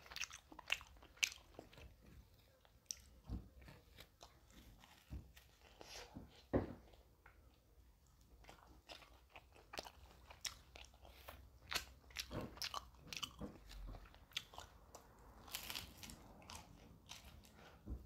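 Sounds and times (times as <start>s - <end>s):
person chewing crunchy food: 0.0s - 7.1s, 8.2s - 17.9s.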